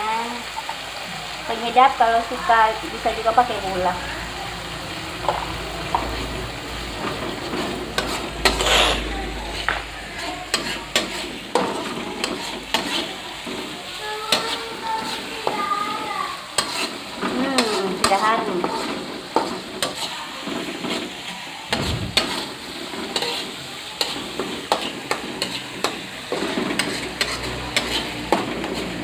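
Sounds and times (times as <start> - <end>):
paste sizzling in oil: 0.0 - 29.0
spatula scraping a pan: 5.2 - 29.0.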